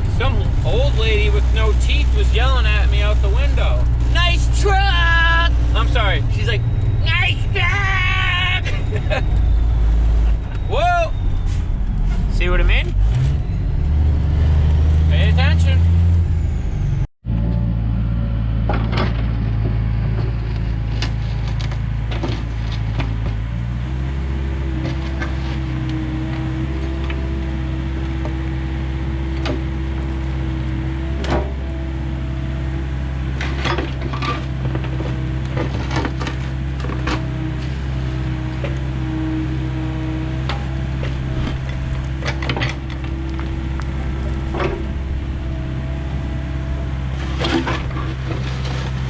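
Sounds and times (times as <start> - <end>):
excavator engine running: 0.0 - 49.0.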